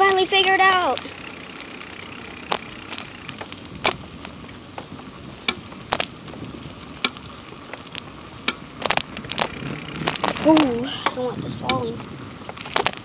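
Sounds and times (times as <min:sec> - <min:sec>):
bicycle rolling on concrete: 0:00.0 - 0:13.0
bike clicking and knocking on joints: 0:00.0 - 0:13.0.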